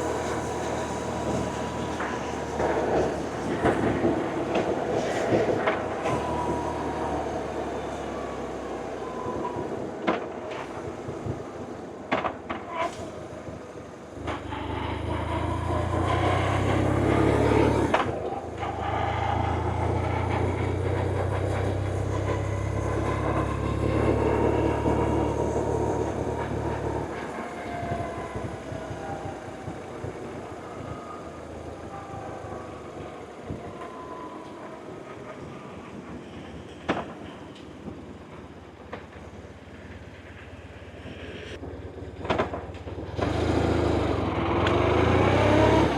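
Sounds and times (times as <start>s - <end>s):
road noise: 0.0s - 45.9s.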